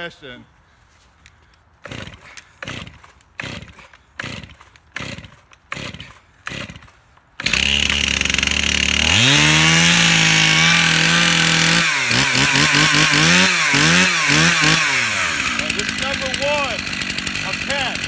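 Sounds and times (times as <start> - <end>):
chainsaw engine revving: 1.8 - 18.0.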